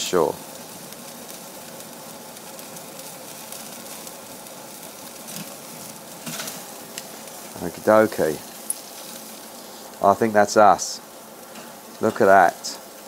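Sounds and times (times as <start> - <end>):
fat sizzling over flame: 0.0 - 13.0.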